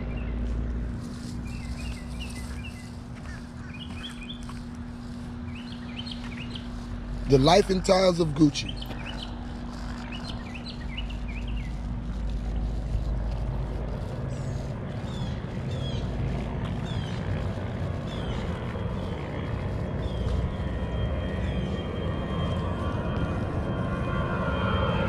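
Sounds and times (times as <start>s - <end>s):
distant engine rumble: 0.0s - 25.0s.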